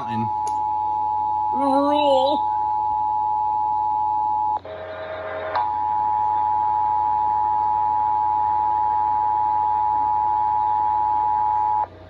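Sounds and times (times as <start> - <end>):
two-tone emergency alert tone: 0.0 - 4.6, 5.6 - 11.9.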